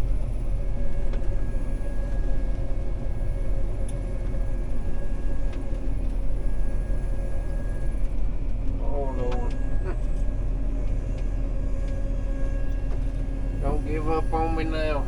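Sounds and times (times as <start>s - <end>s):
combine engine rumble: 0.0s - 15.0s
steady whine: 0.0s - 15.0s.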